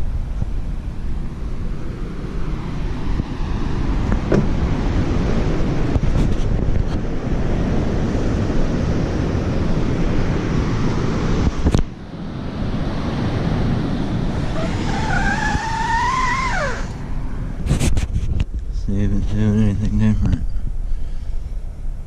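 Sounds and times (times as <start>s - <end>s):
traffic: 0.0s - 22.0s
vehicle high whine: 0.0s - 22.0s
wind on microphone: 0.0s - 22.0s.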